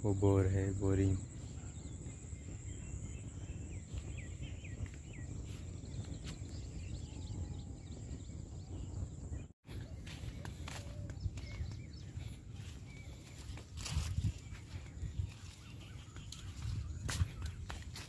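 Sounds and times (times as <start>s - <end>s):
bird chirps: 0.0s - 18.0s
low rumble on microphone: 0.0s - 18.0s.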